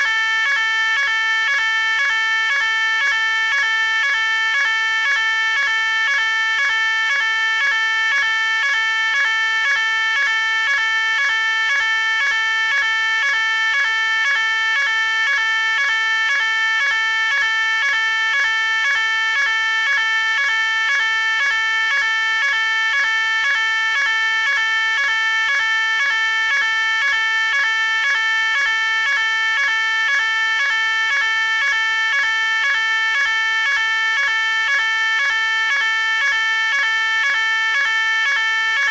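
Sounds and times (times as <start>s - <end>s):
pulsing electronic fire alarm: 0.0s - 38.9s.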